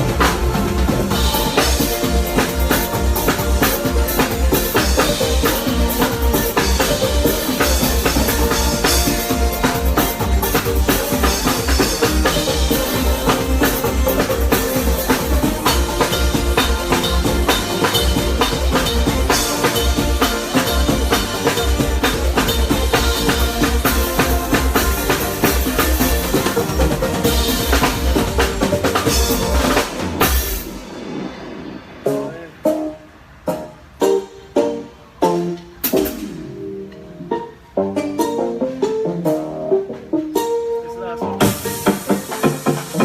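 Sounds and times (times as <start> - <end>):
bass guitar: 0.0 - 31.0, 32.0 - 43.0
drum kit: 0.0 - 43.0
live band playing a groove: 0.0 - 43.0.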